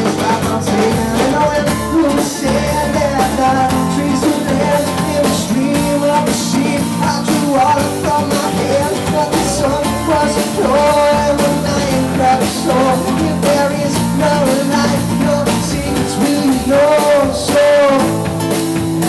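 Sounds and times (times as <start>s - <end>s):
man singing: 0.0s - 18.6s
strummed guitar: 0.0s - 19.0s.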